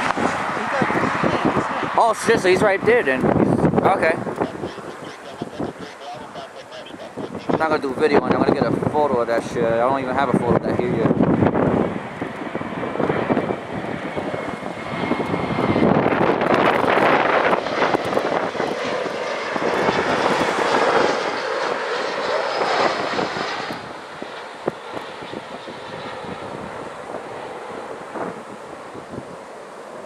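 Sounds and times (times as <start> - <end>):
jet airliner passing: 0.0 - 30.0
jet engine whine: 0.0 - 30.0.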